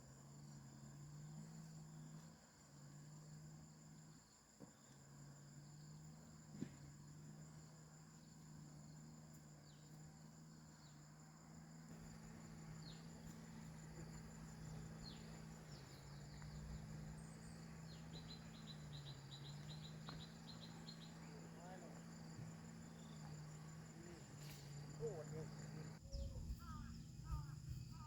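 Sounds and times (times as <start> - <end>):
insects trilling: 0.0 - 28.0
low steady hum: 5.3 - 28.0.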